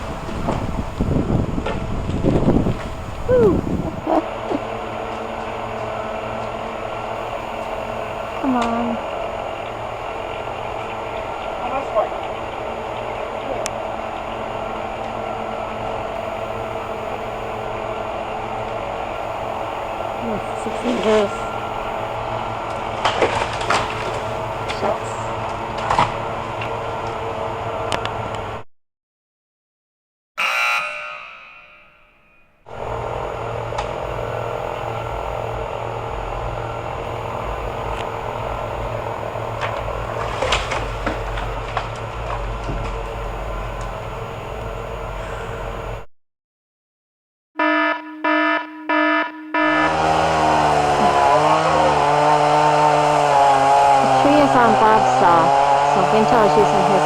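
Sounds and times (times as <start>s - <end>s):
chainsaw running: 0.0s - 11.8s, 12.5s - 27.7s, 32.7s - 46.0s, 49.7s - 57.0s.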